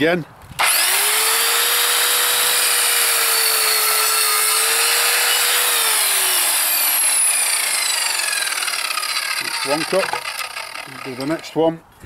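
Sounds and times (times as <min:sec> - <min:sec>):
mitre saw cutting wood: 0:00.6 - 0:11.6
saw motor winding down: 0:00.6 - 0:11.6.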